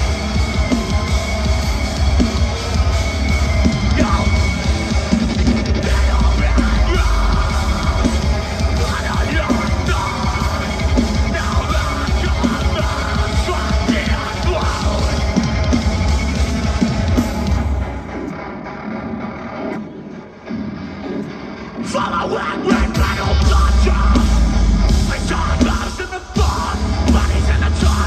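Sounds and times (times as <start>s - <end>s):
bass guitar: 0.0s - 18.2s, 22.7s - 28.0s
distorted guitars: 0.0s - 28.0s
heavy drums: 0.0s - 28.0s
metalcore band playing live: 0.0s - 28.0s.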